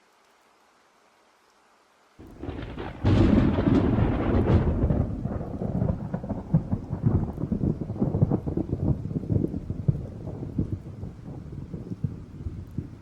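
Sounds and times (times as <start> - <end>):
thunderclap crack and rumble: 2.2 - 13.0.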